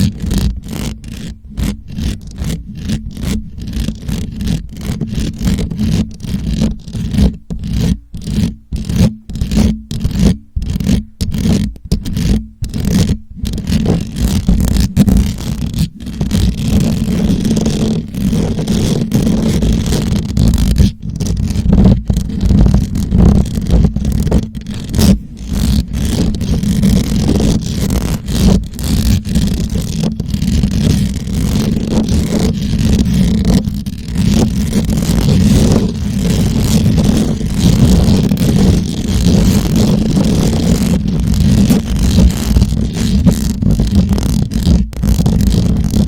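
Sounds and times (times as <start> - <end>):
fingers scratching a microphone: 0.0 - 46.0.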